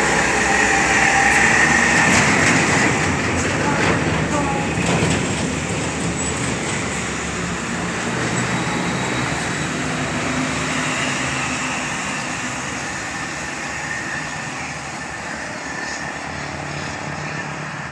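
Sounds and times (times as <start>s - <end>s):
heavy vehicle traffic noise: 0.0s - 17.9s.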